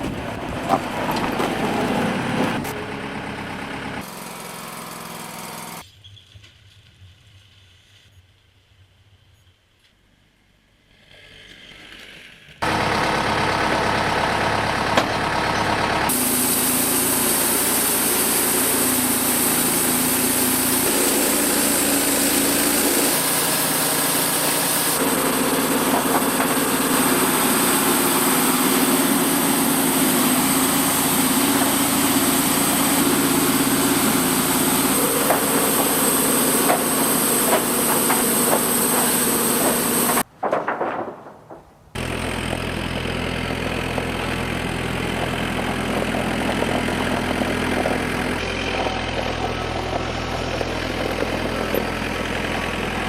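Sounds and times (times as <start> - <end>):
large engine running: 0.0 - 5.8, 12.6 - 40.3, 42.0 - 53.0.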